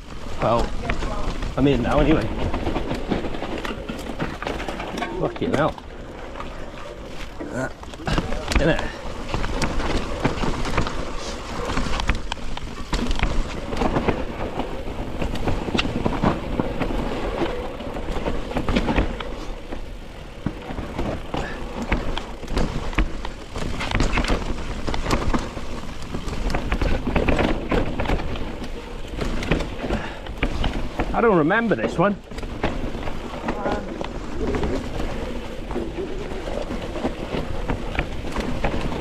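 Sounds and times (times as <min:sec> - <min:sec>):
bike knocking and rattling: 0:00.0 - 0:39.0
bike tyres rumbling over dirt: 0:00.0 - 0:39.0.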